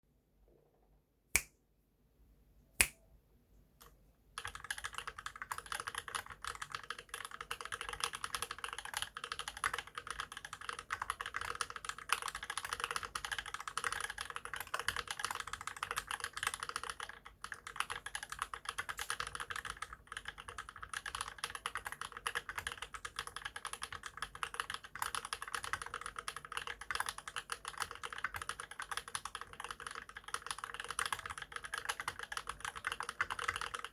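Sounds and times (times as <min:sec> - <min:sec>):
mechanical keyboard typing: 0:04.4 - 0:33.9.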